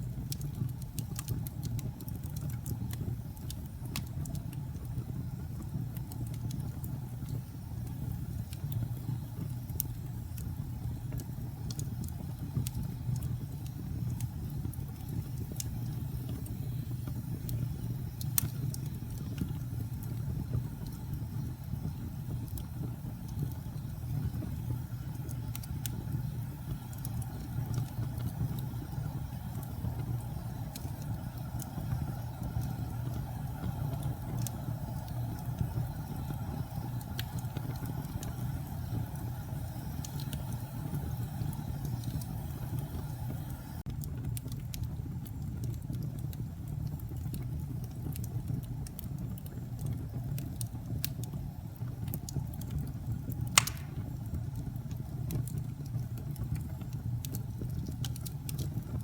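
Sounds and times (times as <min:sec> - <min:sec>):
fire crackling and popping: 0:00.0 - 0:59.0
fire roaring: 0:00.0 - 0:59.0.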